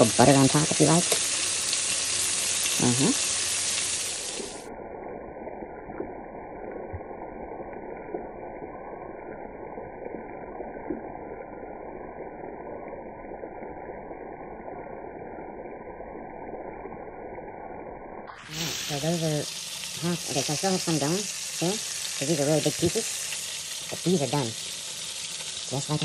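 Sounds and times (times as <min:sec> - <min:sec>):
chicken deep-frying in oil: 0:00.0 - 0:26.0.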